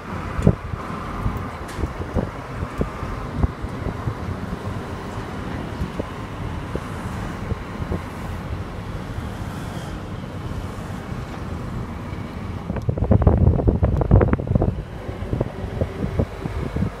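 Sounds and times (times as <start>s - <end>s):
train rumbling in motion: 0.0s - 17.0s
wind buffeting microphone: 0.0s - 17.0s.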